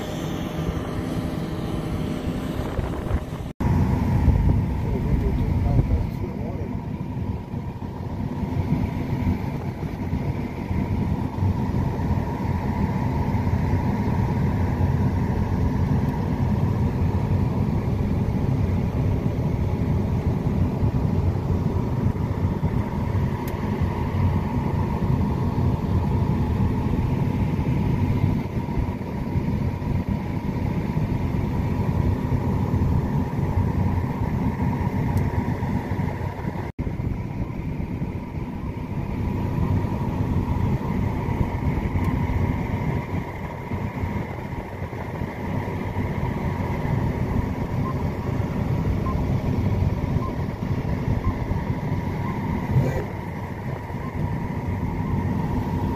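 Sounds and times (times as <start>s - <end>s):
combine harvester drone: 0.0s - 55.9s
faint steady whine: 0.0s - 55.9s.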